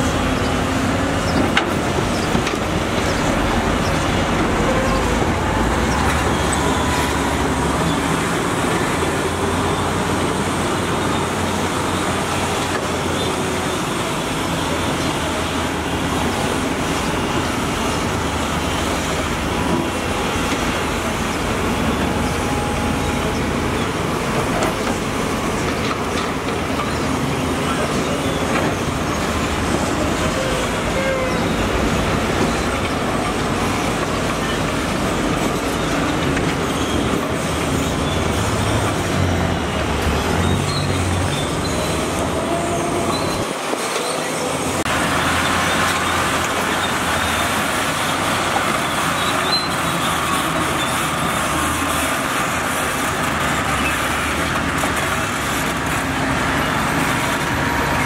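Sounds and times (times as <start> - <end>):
loud diesel engine rumble: 0.0 - 58.0.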